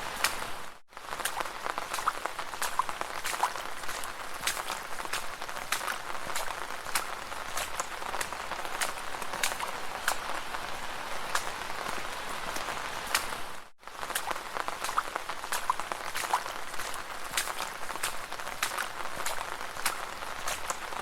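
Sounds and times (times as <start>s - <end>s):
footsteps splashing through puddles: 0.0s - 21.0s.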